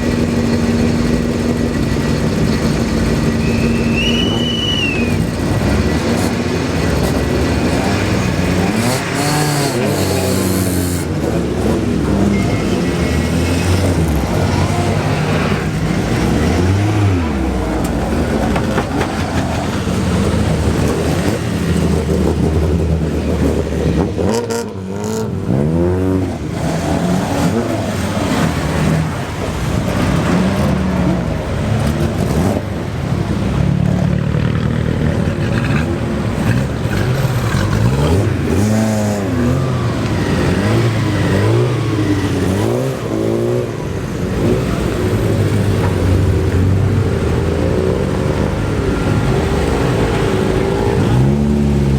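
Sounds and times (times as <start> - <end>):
car engines revving and passing: 0.0 - 51.9.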